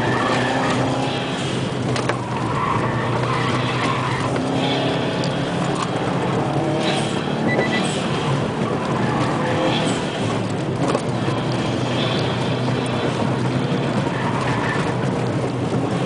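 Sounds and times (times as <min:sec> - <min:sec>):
car engine running: 0:00.0 - 0:16.0
tyre and road noise: 0:00.0 - 0:16.0.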